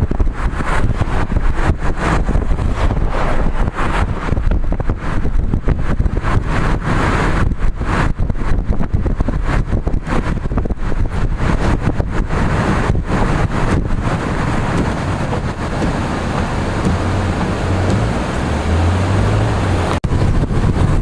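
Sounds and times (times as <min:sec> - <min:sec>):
car road noise: 0:00.0 - 0:21.0.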